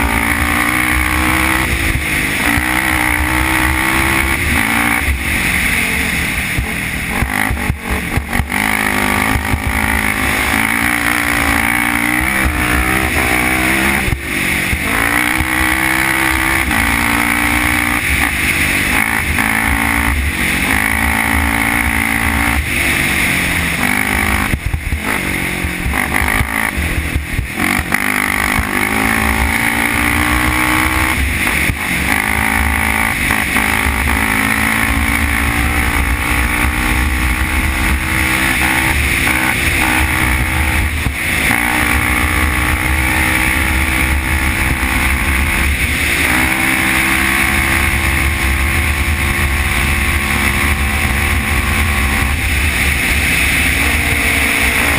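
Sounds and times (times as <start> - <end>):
quad engine running hard: 0.0 - 54.9.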